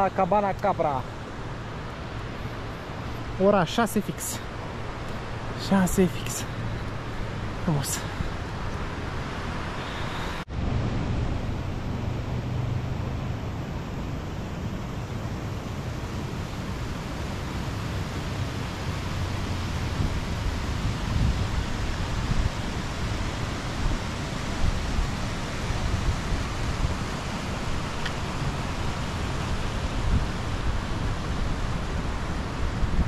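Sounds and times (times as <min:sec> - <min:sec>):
wind buffeting microphone: 0:04.5 - 0:33.0.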